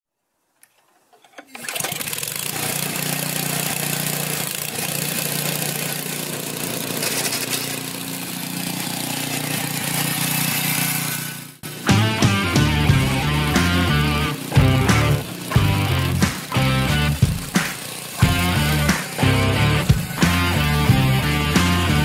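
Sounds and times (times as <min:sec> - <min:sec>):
snowblower engine running: 0:01.5 - 0:22.0.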